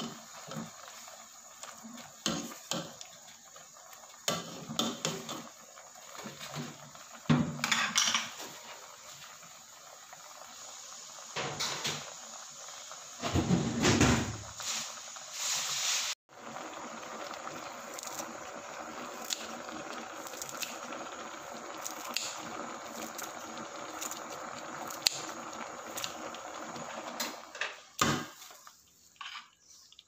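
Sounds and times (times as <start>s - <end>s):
soup boiling: 0.0s - 30.0s.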